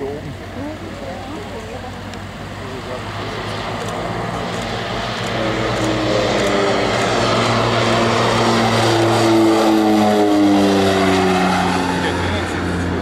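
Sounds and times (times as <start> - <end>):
turboprop aircraft flying past: 0.0 - 13.0.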